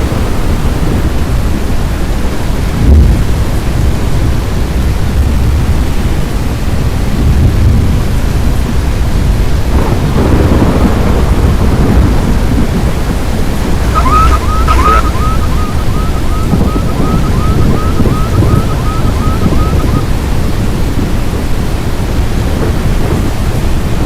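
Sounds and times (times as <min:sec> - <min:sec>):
storm wind and rain rumble: 0:00.0 - 0:24.0.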